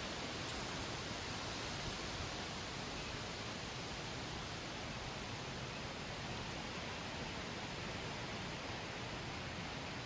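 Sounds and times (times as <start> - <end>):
wind rustling leaves: 0.0 - 10.0.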